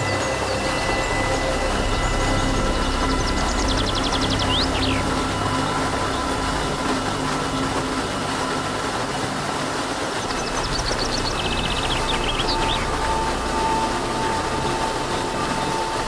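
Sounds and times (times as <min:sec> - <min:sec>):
birds chirping: 0:00.0 - 0:08.3, 0:09.8 - 0:16.0
water rushing over rocky waterfall: 0:00.0 - 0:16.0.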